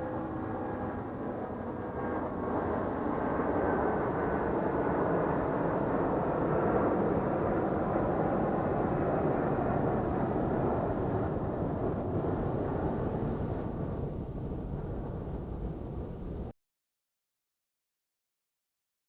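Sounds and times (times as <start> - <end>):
jet airliner flying overhead: 0.0 - 16.5.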